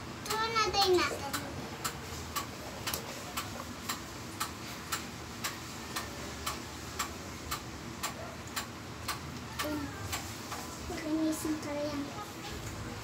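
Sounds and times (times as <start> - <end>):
steady ticking: 0.2 - 11.7.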